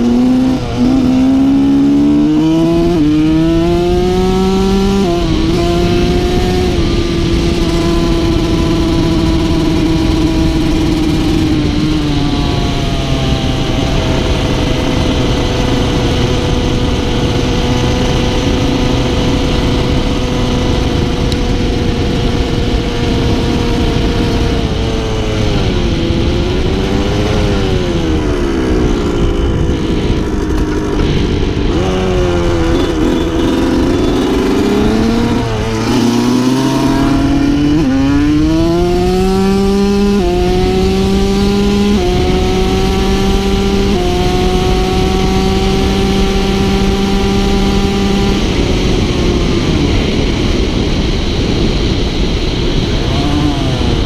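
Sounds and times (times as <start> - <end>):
motorcycle engine shifting gears: 0.0 - 54.0
wind noise on microphone: 0.0 - 54.0.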